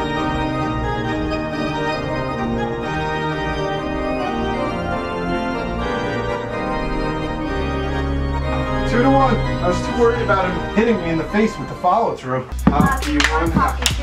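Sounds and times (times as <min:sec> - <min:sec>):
electric organ chords: 0:00.0 - 0:14.0.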